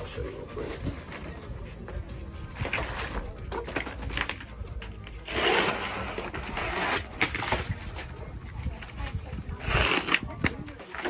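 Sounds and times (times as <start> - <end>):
cardboard scraping on concrete: 0.3 - 11.0.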